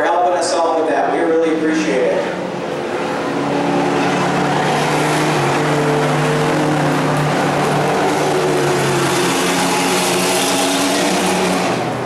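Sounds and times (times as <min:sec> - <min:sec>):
truck engines droning: 0:00.0 - 0:12.0.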